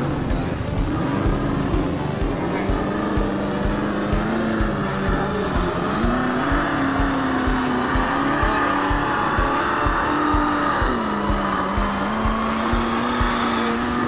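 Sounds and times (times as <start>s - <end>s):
steady kick-drum beat: 0.0s - 14.0s
sustained bass notes: 0.0s - 14.0s.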